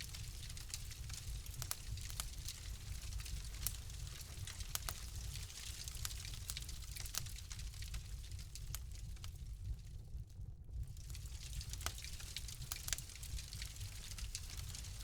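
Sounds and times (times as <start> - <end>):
wood fire popping and snapping: 0.0 - 15.0.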